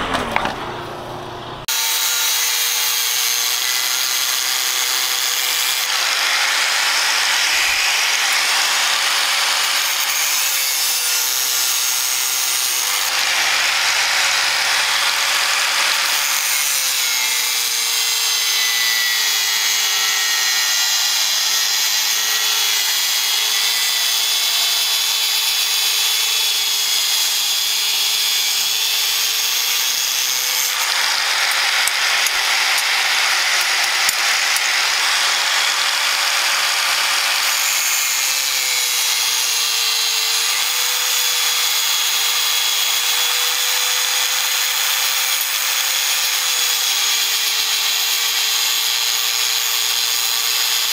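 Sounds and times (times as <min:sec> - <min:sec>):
angle grinder motor whine: 0:00.0 - 0:50.9.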